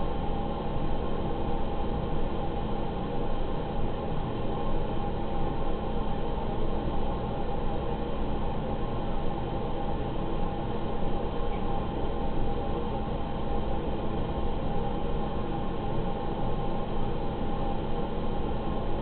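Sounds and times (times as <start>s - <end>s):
constant hum: 0.0s - 19.0s.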